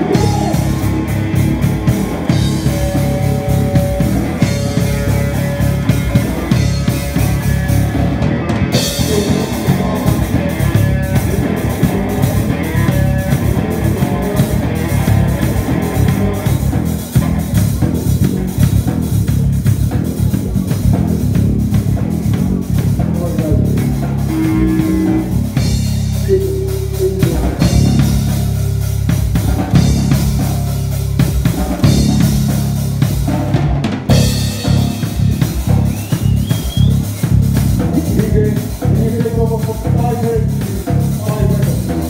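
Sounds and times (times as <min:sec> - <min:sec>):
drum kit: 0:00.0 - 0:42.0
electric bass guitar: 0:00.0 - 0:42.0
electric guitar: 0:00.0 - 0:42.0.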